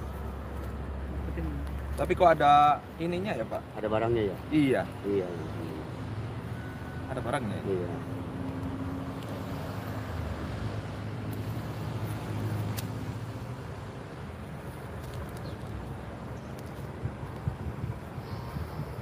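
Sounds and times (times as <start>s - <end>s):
motor traffic rumble: 0.0s - 19.0s.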